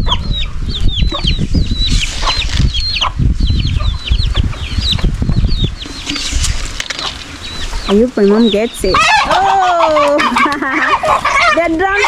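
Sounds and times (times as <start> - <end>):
chicken squawking: 1.0 - 4.7, 5.7 - 12.0.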